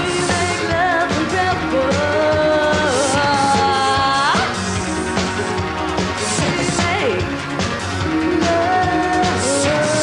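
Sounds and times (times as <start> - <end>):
steady drum beat: 0.0 - 10.0
synthesizers: 0.0 - 10.0.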